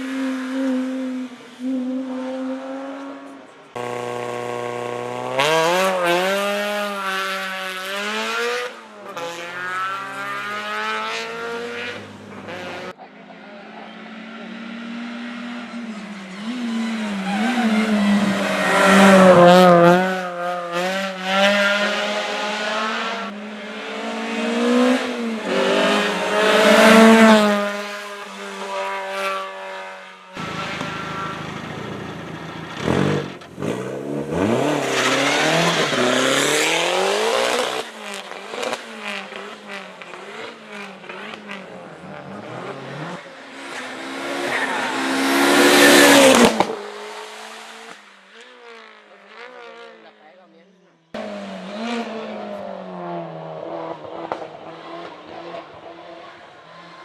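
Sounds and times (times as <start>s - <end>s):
race car engines revving: 0.0s - 50.4s, 51.1s - 57.0s.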